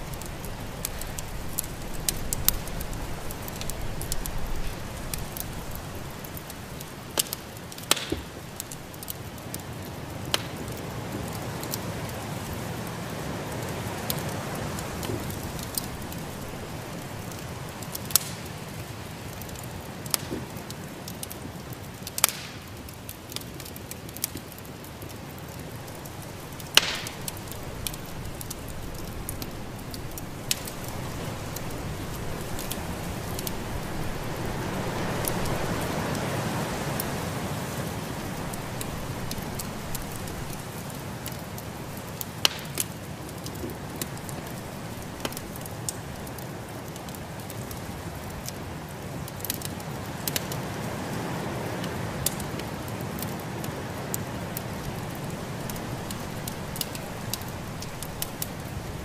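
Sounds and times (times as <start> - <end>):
fire popping: 0.0 - 59.0
wood fire crackling: 0.0 - 59.0.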